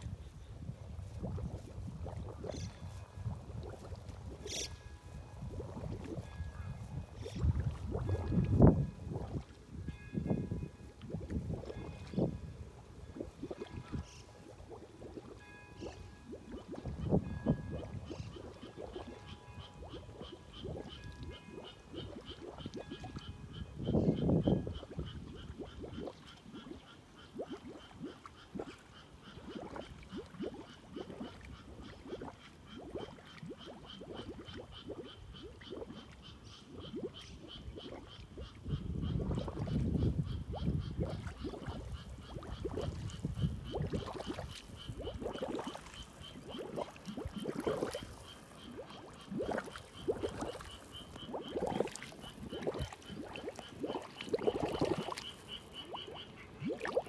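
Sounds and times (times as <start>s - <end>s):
shallow water gurgling: 0.0s - 57.0s
frogs croaking: 2.0s - 57.0s.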